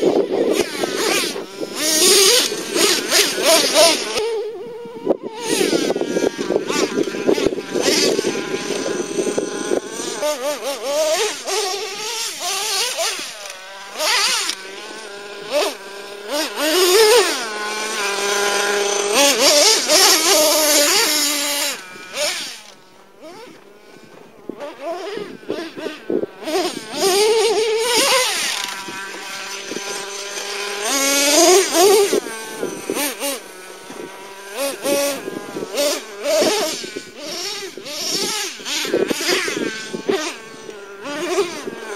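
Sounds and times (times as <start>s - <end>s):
rc truck engine revving: 0.0s - 41.9s.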